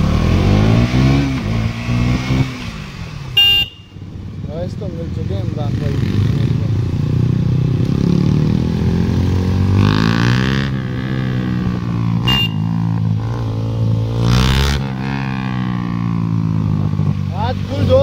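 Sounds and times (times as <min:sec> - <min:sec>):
motorcycle engine running: 0:01.4 - 0:18.0.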